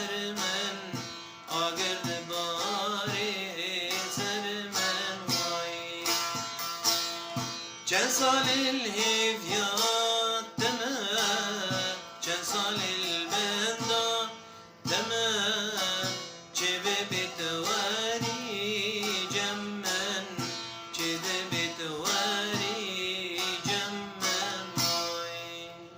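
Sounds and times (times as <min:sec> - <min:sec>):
instrumental folk melody: 0:00.0 - 0:25.9.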